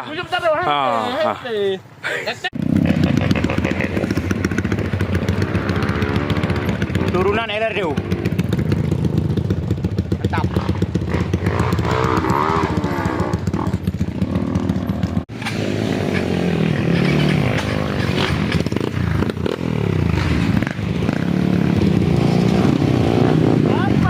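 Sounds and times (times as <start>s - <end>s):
motorcycle engines revving: 2.5s - 24.0s.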